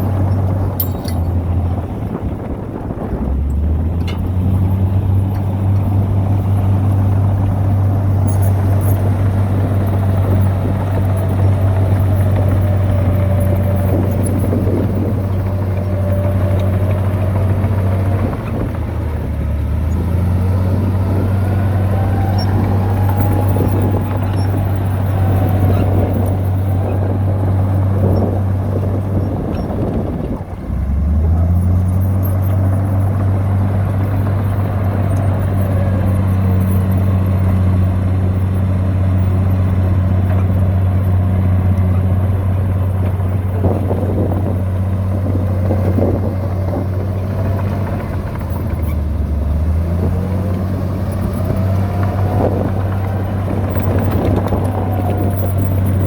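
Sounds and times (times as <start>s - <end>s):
diesel machine engine running: 0.0s - 56.0s.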